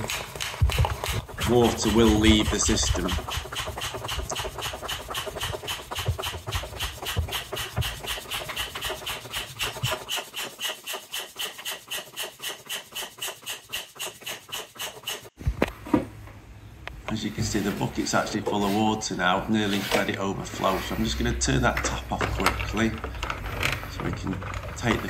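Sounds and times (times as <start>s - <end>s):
hand air pump rasping strokes: 0.0s - 15.4s, 17.4s - 25.0s.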